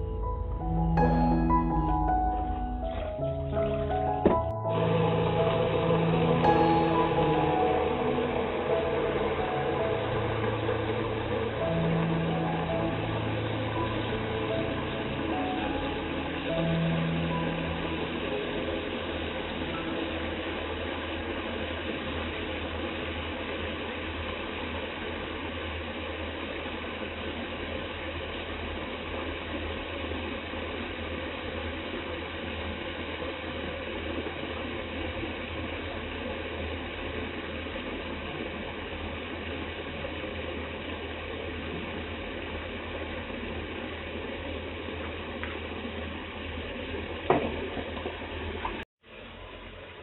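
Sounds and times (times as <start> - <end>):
food crackling and bubbling in a pan: 4.7 - 50.0.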